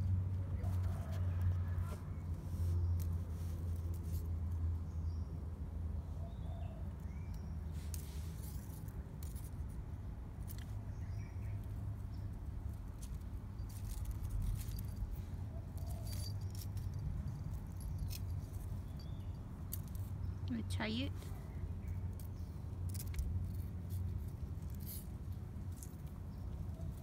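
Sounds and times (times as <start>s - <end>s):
kitten rustling and scratching leaves: 0.0s - 6.1s, 6.8s - 27.0s.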